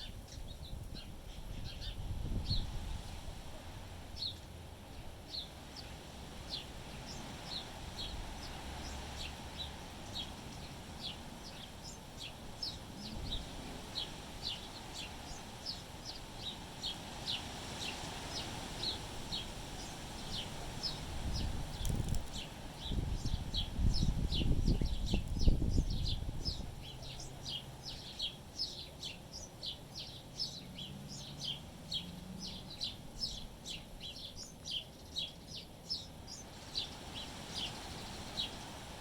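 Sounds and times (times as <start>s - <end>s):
small bird chirping: 0.0s - 2.7s, 4.1s - 38.8s
wind rumble on microphone: 0.0s - 28.2s, 30.0s - 39.0s.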